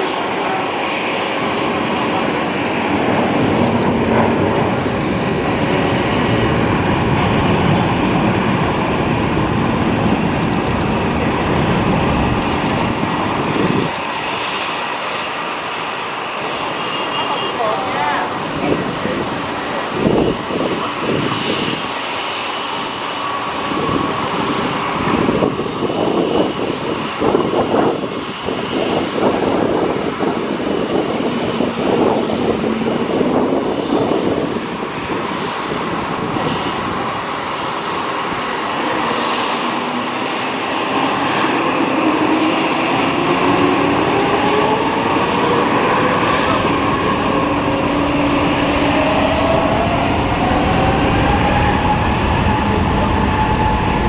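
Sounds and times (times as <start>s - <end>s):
jet engines roaring on landing: 0.0s - 54.0s
turbofans spooling up whine: 0.0s - 54.0s.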